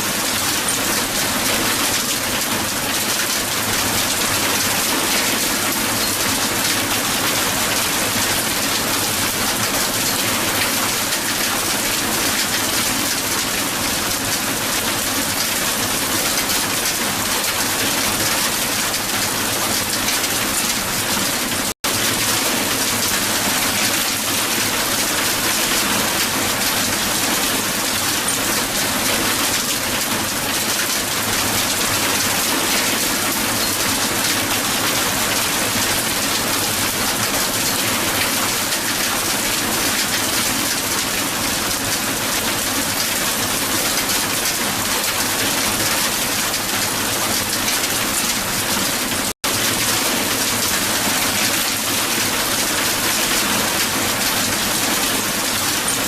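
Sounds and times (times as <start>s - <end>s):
hail falling on hard ground: 0.0s - 56.0s.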